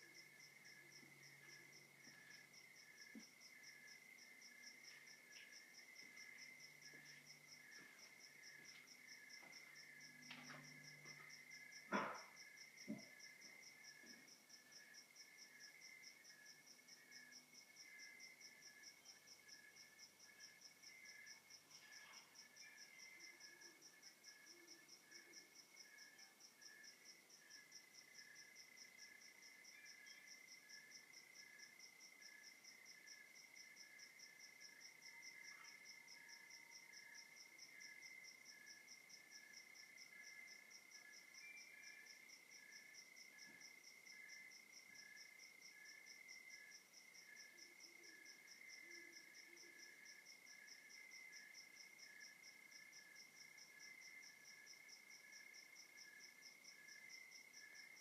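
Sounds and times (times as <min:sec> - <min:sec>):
low insect trill: 0:00.0 - 0:58.0
slow evenly spaced chirp: 0:00.0 - 0:58.0.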